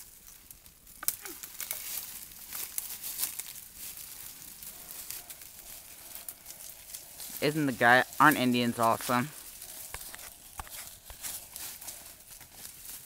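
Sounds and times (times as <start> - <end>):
footsteps crunching through dry leaves: 0.0 - 13.0.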